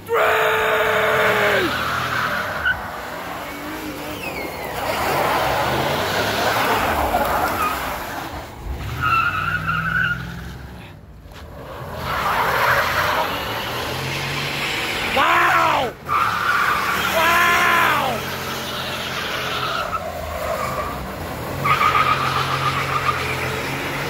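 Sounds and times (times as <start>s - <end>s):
tyres squealing on wet pavement: 0.0s - 10.9s, 11.5s - 24.0s
engines revving hard: 0.0s - 24.0s.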